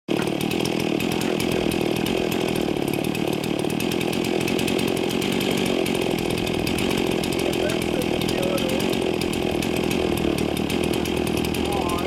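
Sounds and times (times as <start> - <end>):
chainsaw engine running: 0.1 - 12.0.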